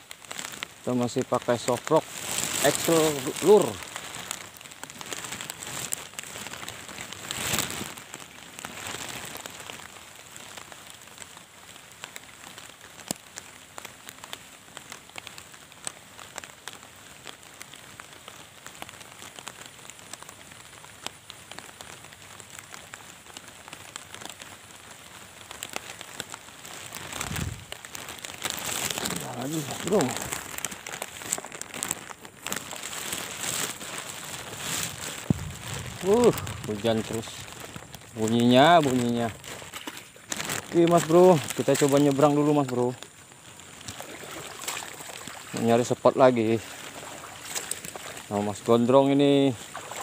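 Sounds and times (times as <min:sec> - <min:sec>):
rain falling on water: 0:00.0 - 0:50.0.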